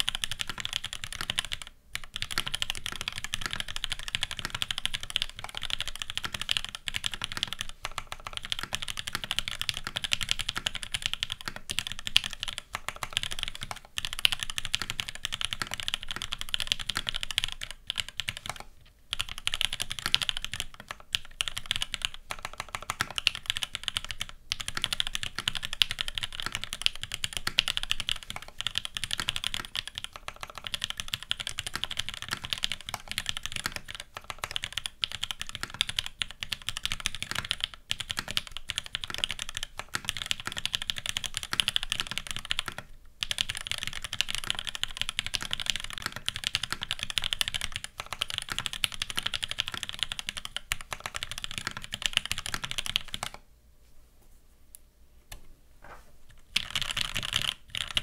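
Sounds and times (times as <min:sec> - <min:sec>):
mechanical keyboard typing: 0:00.0 - 0:53.4, 0:56.3 - 0:58.0.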